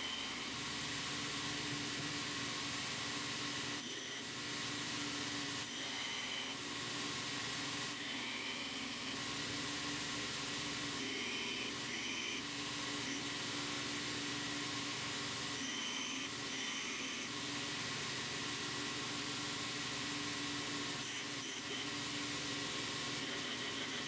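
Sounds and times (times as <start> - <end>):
high-pitched grinding whine: 0.0 - 24.0.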